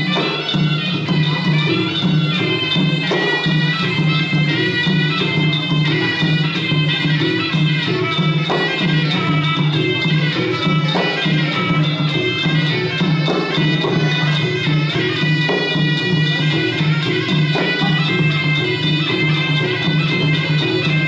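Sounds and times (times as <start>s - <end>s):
reedy wind instrument melody: 0.0s - 21.0s
repeating drum beat: 0.0s - 21.0s.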